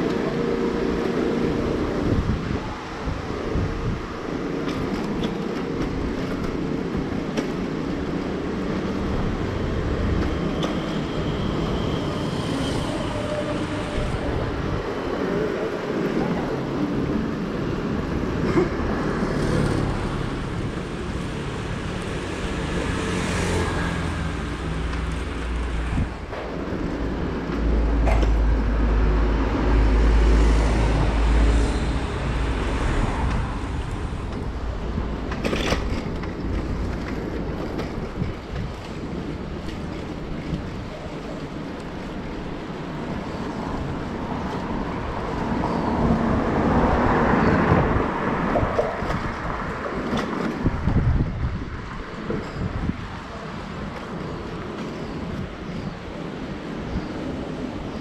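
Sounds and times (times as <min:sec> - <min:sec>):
cars passing: 0:00.0 - 0:58.0
motor scooters passing: 0:00.0 - 0:58.0
wind rumbling on microphone: 0:00.1 - 0:58.0.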